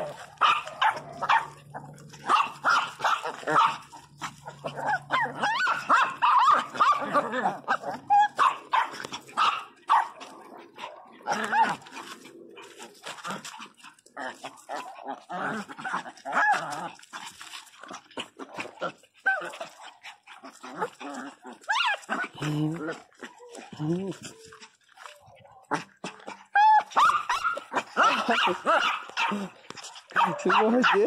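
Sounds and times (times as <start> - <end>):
small dogs barking and yipping: 0.0 - 31.0.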